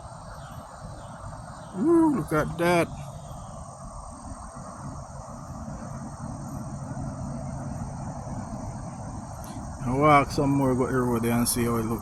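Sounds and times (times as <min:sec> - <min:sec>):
high-pitched insect drone: 0:00.0 - 0:12.0
low steady rushing noise: 0:00.0 - 0:12.0.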